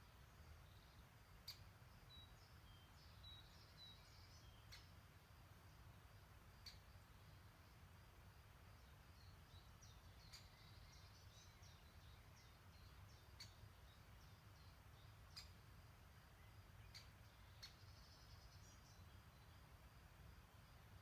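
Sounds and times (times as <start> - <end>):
distant songbirds twittering: 0.0 - 21.0.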